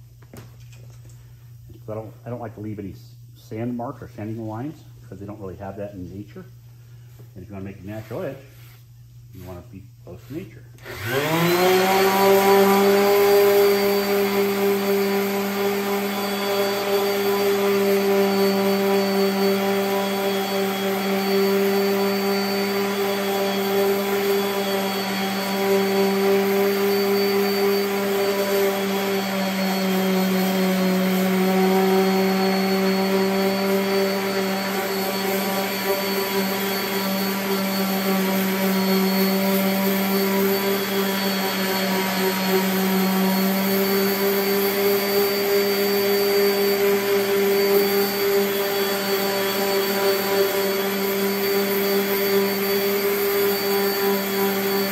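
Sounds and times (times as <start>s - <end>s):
orbital sander on wood: 7.5s - 54.9s.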